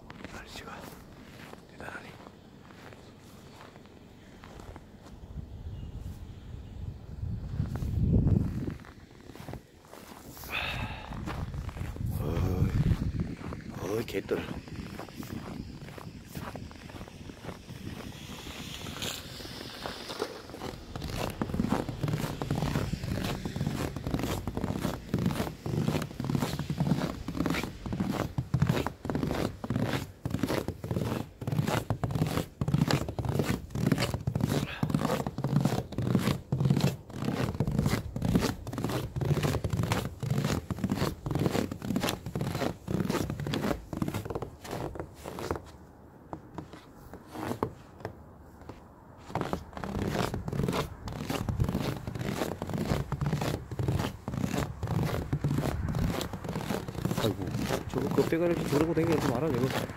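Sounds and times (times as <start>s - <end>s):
footsteps crunching in snow: 0.0s - 6.5s, 7.4s - 59.9s.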